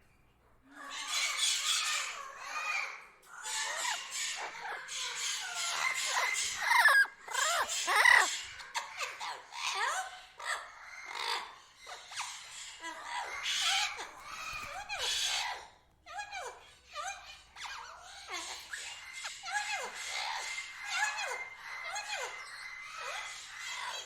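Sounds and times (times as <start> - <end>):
tropical birds chirping and whistling: 0.8 - 24.0.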